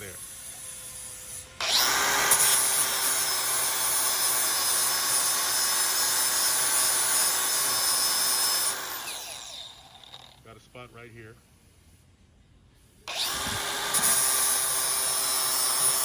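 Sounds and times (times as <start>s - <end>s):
angle grinder grinding steel: 0.0s - 10.5s, 13.1s - 16.0s.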